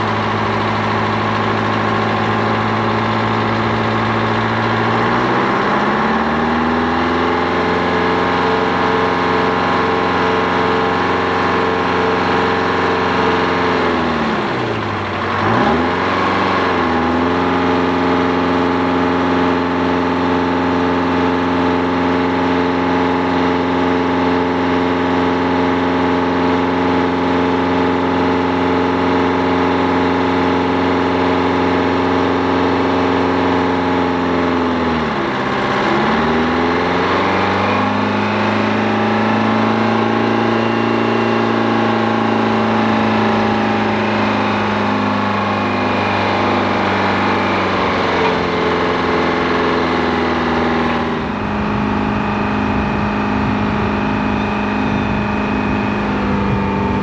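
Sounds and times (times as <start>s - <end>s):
crane engine running: 0.0s - 57.0s.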